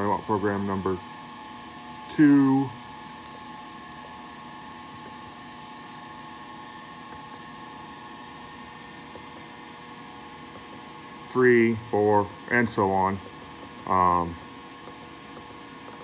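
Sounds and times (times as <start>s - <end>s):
steady electrical hum and hiss: 0.0s - 16.0s.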